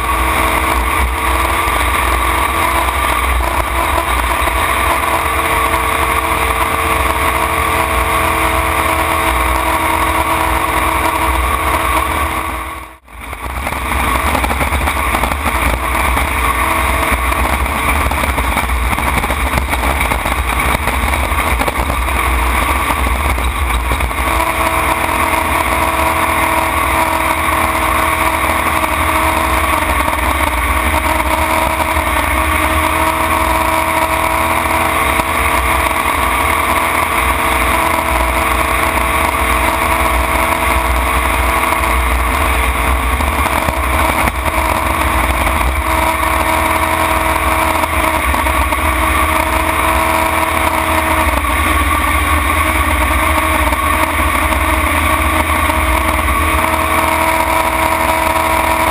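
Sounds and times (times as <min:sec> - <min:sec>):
jet boat engine running hard: 0:00.0 - 0:58.9.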